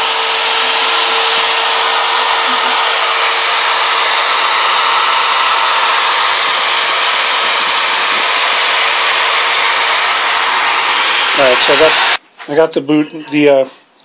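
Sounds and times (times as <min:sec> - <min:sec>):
router spindle milling with whine: 0:00.0 - 0:12.2.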